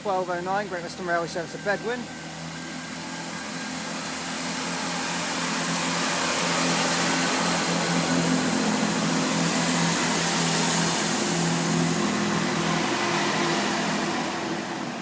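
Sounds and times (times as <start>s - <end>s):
diesel train engines humming: 0.0s - 15.0s.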